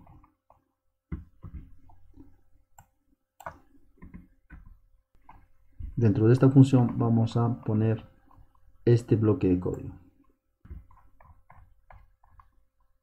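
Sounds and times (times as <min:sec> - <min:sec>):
keyboard and mouse clicks: 0:00.0 - 0:07.4, 0:09.5 - 0:13.0.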